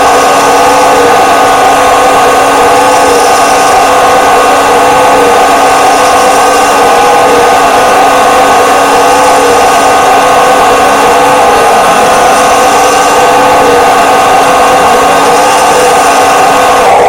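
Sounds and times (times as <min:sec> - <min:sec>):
model tractor engine drone: 0:00.0 - 0:17.0.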